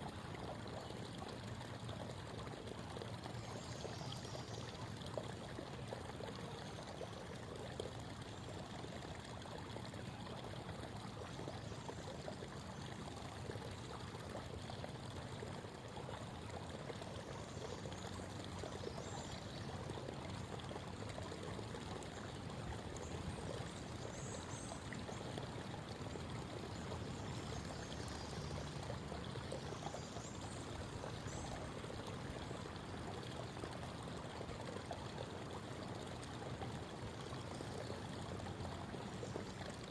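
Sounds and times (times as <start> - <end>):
creek water babbling over stones: 0.0 - 39.9.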